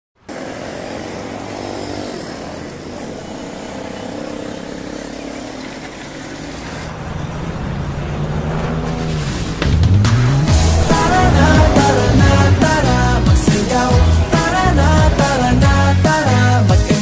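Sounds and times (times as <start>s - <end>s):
street noise: 0.2s - 17.0s
vehicle driving past: 0.3s - 16.7s.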